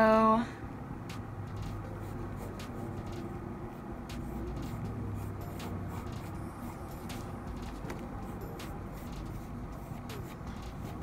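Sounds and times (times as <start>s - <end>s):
pencil scratching on paper: 1.7s - 11.0s.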